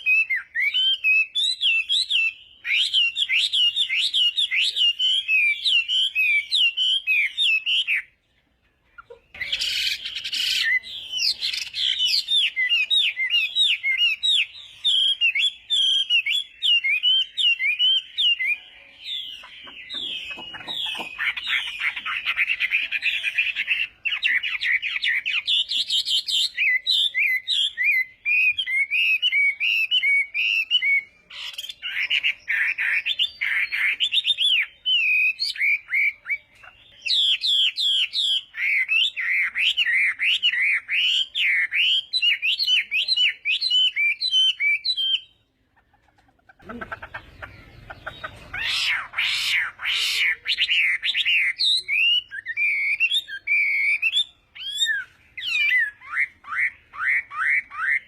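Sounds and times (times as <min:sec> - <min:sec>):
bird singing whistled trills: 0:00.0 - 0:08.2, 0:09.0 - 0:45.5, 0:47.1 - 0:58.0.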